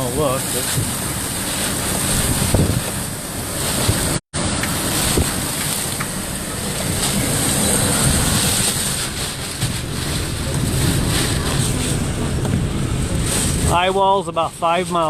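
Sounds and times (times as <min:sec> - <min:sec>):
strong wind buffeting microphone: 0:00.0 - 0:14.8.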